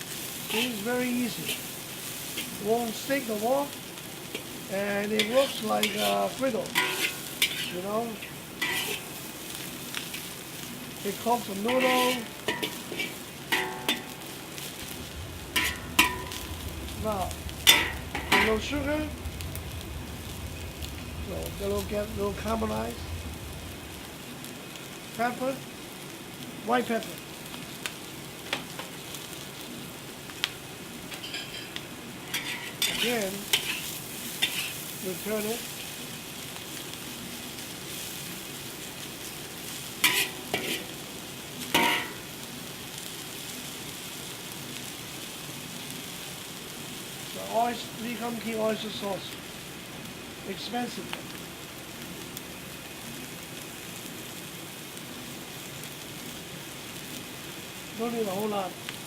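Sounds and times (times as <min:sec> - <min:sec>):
noodles sizzling in a wok: 0:00.0 - 0:59.0.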